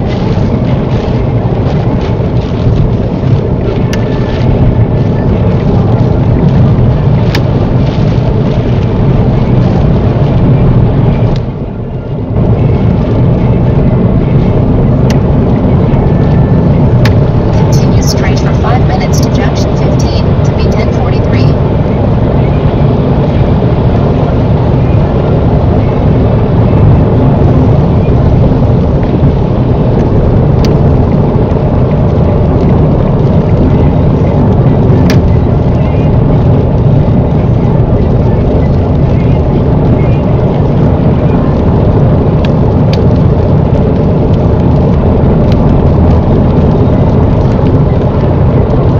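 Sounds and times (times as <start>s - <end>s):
rain and spray on car: 0.0s - 21.2s, 25.6s - 48.9s
engine hum: 0.0s - 48.9s
tyres on wet road: 0.0s - 48.9s.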